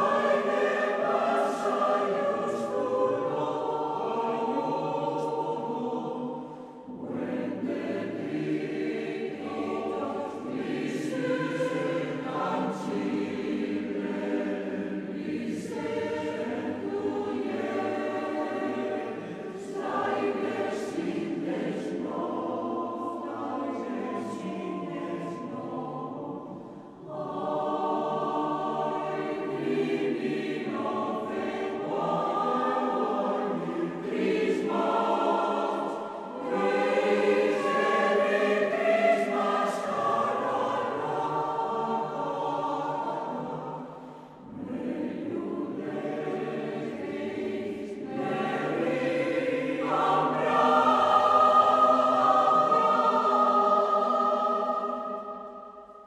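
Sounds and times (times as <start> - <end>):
choir singing held chords: 0.0 - 56.0.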